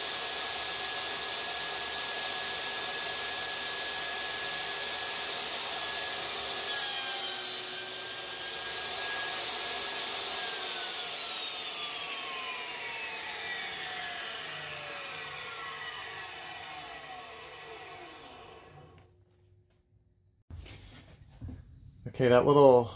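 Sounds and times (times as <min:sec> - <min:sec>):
saw blade spinning down: 0:00.0 - 0:19.1
table saw whining: 0:00.0 - 0:19.2.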